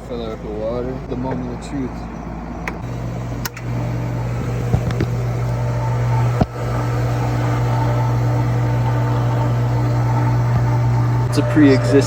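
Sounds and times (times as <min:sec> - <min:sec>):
pool pump motor humming: 0:00.0 - 0:12.0.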